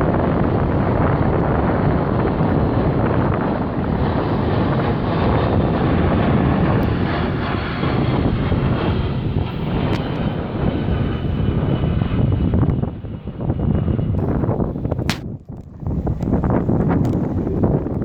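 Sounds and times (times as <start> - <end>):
aircraft engine rumble: 0.0 - 18.0.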